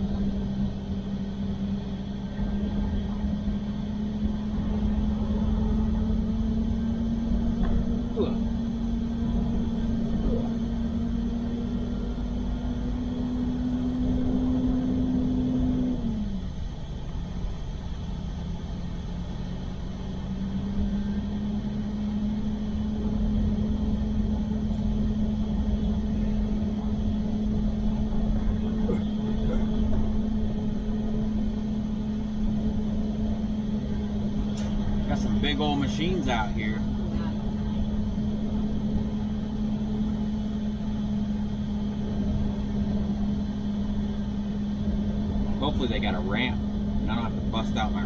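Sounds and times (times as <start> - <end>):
truck engine and road drone: 0.0 - 48.0.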